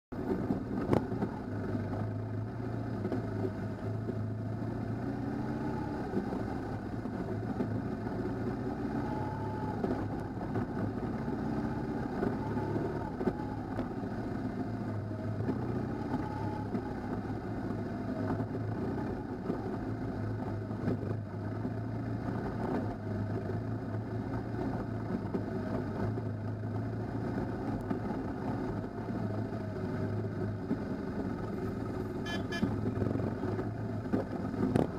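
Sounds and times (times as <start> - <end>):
motorcycle engines running: 0.2 - 34.9.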